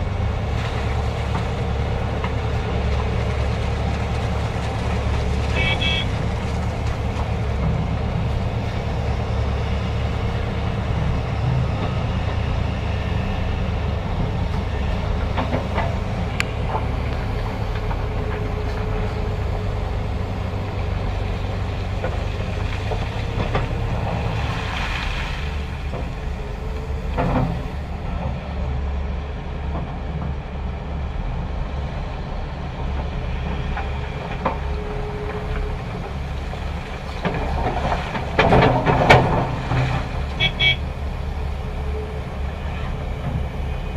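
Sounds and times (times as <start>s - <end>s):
heavy diesel engine rumbling: 0.0s - 43.9s.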